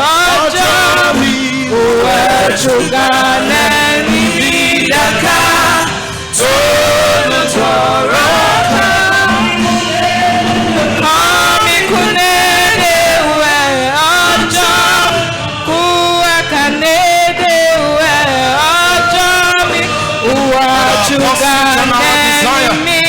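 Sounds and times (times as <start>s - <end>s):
choir voices singing: 0.0s - 23.0s
instrumental backing: 0.0s - 23.0s
man singing slow melody: 0.0s - 23.0s.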